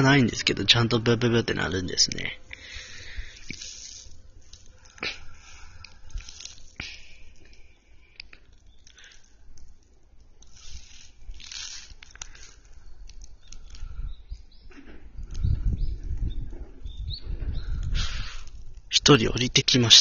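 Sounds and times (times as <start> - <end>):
rustling and crackling: 2.0 - 20.0.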